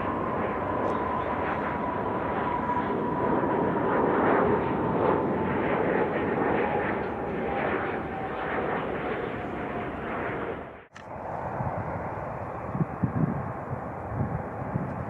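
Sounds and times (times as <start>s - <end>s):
jet airliner passing: 0.0s - 15.0s.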